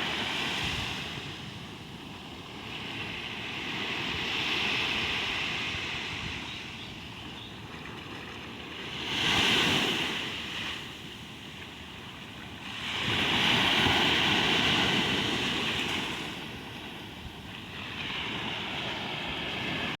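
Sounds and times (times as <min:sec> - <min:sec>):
ocean waves breaking: 0:00.0 - 0:06.4, 0:07.6 - 0:20.0.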